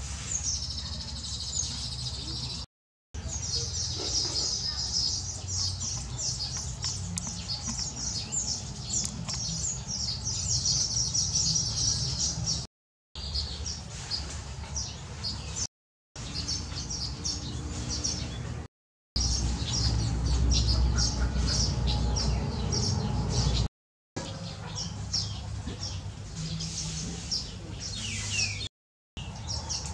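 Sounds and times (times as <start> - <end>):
birds chattering with high chirps: 0.0 - 29.9.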